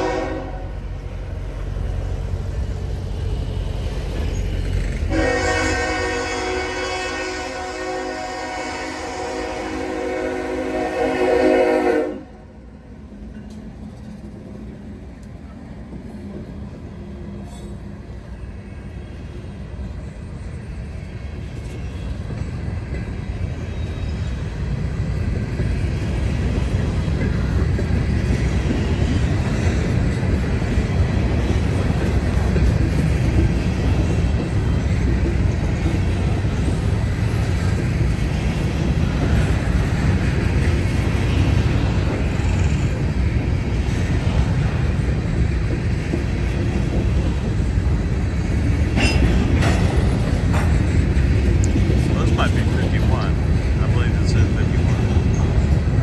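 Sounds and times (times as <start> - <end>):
freight train passing: 0.0 - 56.0
train wheel noise: 0.0 - 56.0.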